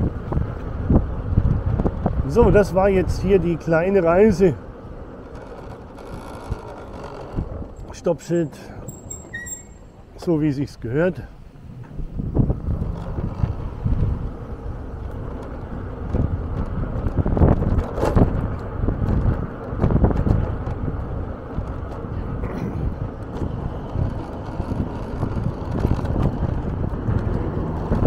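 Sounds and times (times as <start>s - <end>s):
vehicle driving rumble: 0.0s - 28.0s
wind buffeting microphone: 0.0s - 28.0s.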